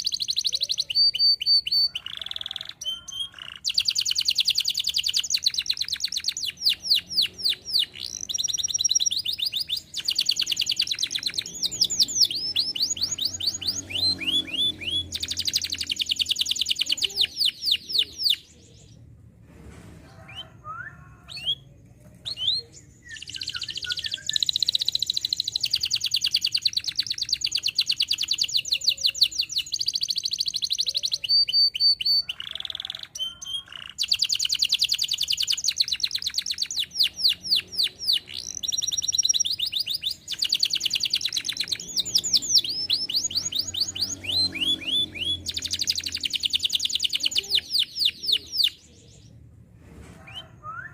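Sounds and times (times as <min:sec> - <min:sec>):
canary singing trills: 0:00.0 - 0:19.1, 0:20.3 - 0:49.4.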